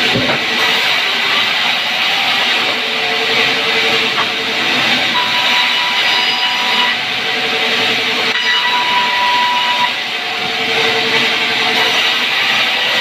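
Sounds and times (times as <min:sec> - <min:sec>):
band saw running with whine: 0:00.0 - 0:13.0.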